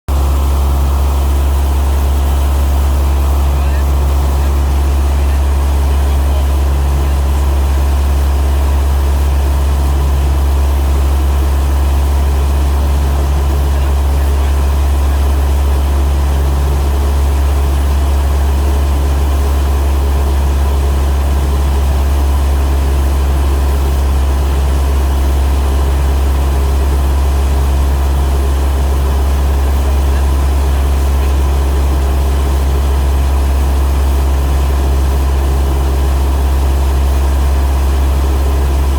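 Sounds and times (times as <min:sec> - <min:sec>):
aircraft engine droning: 0:00.1 - 0:38.9.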